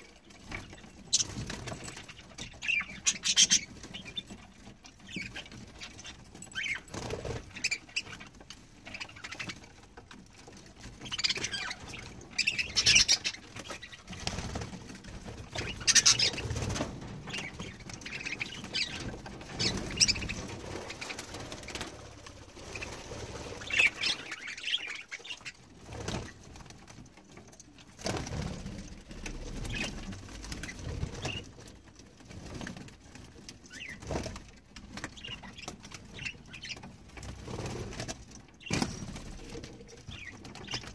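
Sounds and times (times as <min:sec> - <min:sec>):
wings fluttering and flapping: 0:00.0 - 0:40.9.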